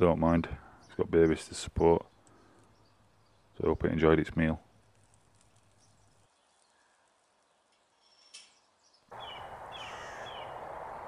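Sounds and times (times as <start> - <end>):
outdoor background hiss: 0.0 - 11.0
bird chirping: 0.7 - 4.0, 4.7 - 11.0.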